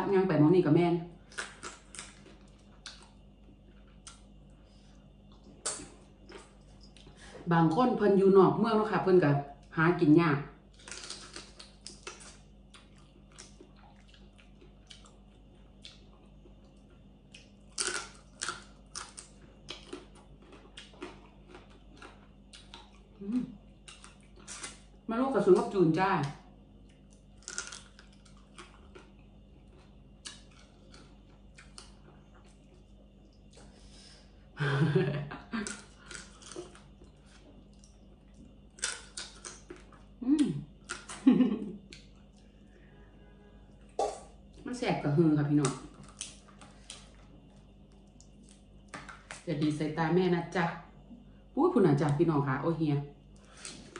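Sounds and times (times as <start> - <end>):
crunching and chewing food: 1.2 - 7.9, 10.6 - 44.8, 45.4 - 49.5, 53.2 - 53.9.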